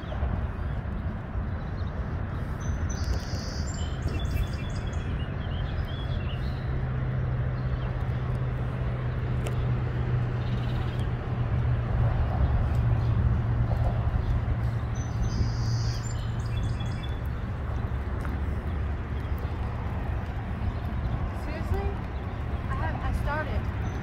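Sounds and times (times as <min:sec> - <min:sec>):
birds chirping: 0:00.0 - 0:11.6, 0:12.2 - 0:24.0.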